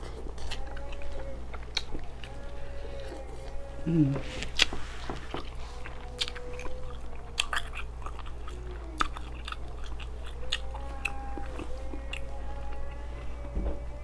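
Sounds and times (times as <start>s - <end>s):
crunchy biting and chewing: 0.0s - 14.0s
low steady hum: 0.0s - 14.0s.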